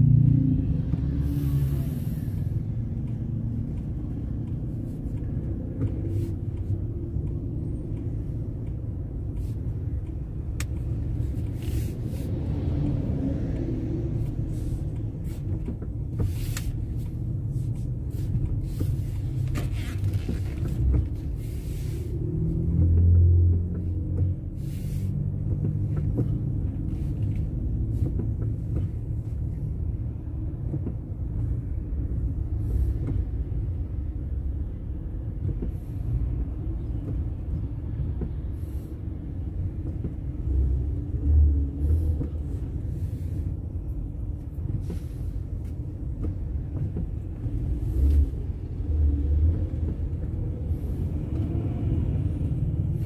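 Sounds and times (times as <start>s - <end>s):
car engine rumble: 0.0s - 53.0s
road noise: 0.0s - 53.0s.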